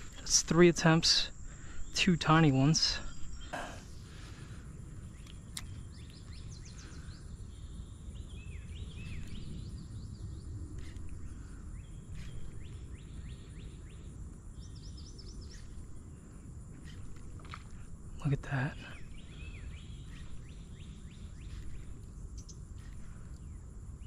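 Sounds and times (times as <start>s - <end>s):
high insect tone: 0.0s - 24.0s
small birds chirping: 0.0s - 24.0s
steady low rumble: 0.0s - 24.0s.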